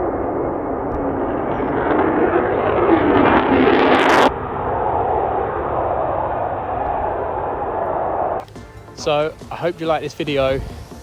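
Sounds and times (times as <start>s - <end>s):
military jet engine noise: 0.0s - 11.0s.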